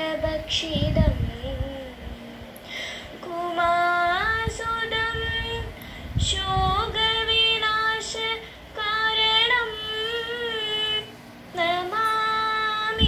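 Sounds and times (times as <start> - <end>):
girl singing unaccompanied: 0.0 - 2.2, 3.1 - 13.0.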